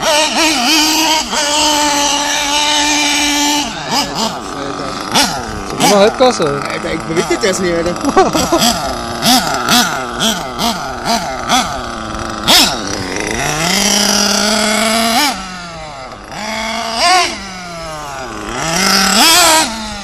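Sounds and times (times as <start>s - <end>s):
model engine revving: 0.0s - 20.0s.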